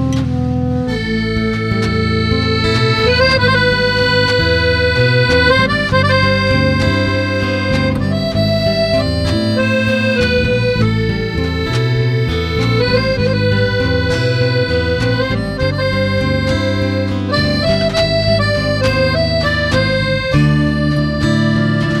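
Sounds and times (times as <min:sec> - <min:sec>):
accordion music: 0:00.0 - 0:22.0.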